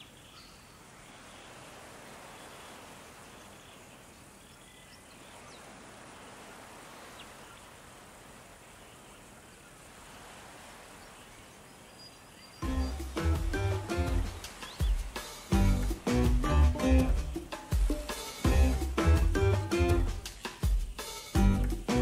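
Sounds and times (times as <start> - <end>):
distant ocean surf: 1.1 - 4.4, 5.1 - 12.0, 12.6 - 20.5.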